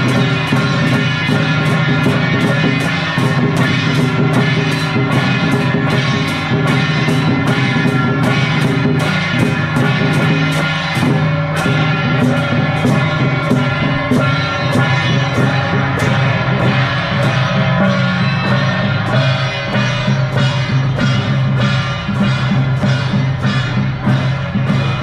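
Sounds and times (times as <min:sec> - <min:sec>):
drums: 0:00.0 - 0:25.0
hand cymbals clashing: 0:00.0 - 0:25.0.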